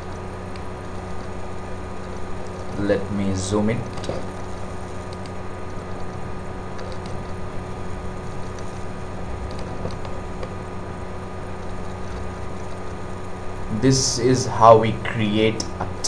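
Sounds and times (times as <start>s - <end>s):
recording hum and hiss: 0.0s - 16.0s.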